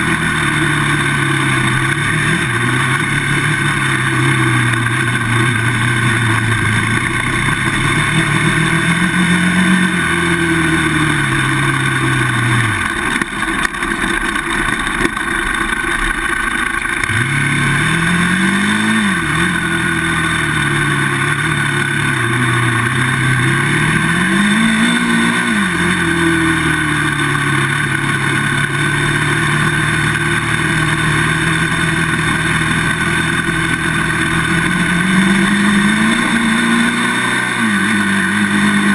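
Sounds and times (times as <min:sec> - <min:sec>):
quad bike engine revving: 0:00.0 - 0:38.9.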